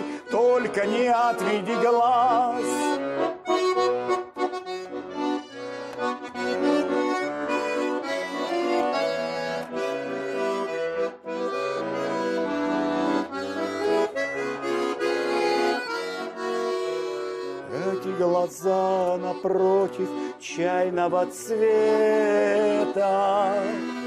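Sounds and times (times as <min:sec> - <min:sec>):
instrumental pop music: 0:00.0 - 0:24.0.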